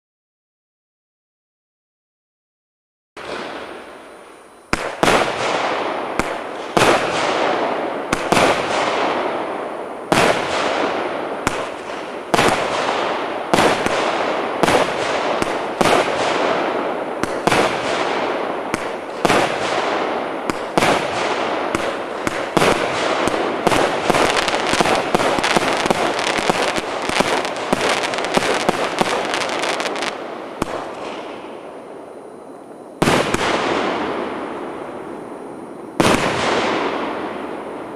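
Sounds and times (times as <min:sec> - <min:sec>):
fireworks bangs with hiss: 0:03.2 - 0:37.9.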